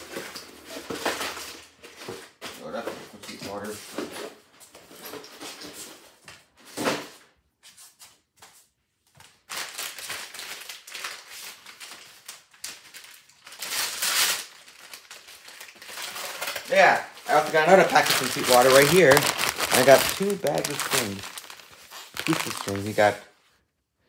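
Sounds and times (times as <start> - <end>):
packaging rustling and scraping: 0.0 - 7.1, 9.5 - 23.2.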